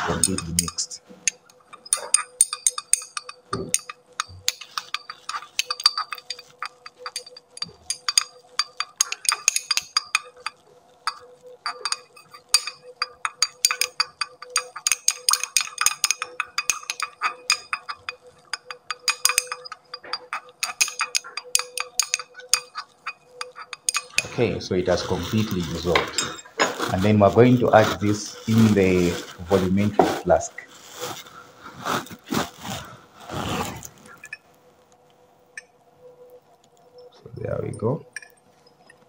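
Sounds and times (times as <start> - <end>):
glass rod clinking in beaker: 0.0 - 30.1, 34.1 - 34.5, 37.0 - 39.0
faint steady hum: 0.0 - 39.0.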